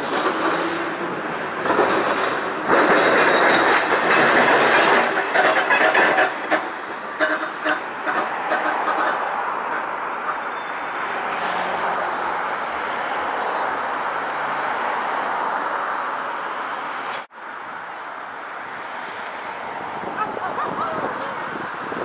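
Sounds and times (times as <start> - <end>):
road traffic: 0.0 - 22.0
streetcar rolling on rails: 0.0 - 22.0.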